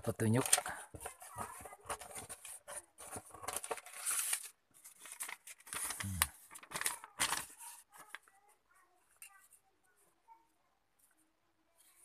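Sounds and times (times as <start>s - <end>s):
paper and cardboard rustling: 0.0s - 10.0s.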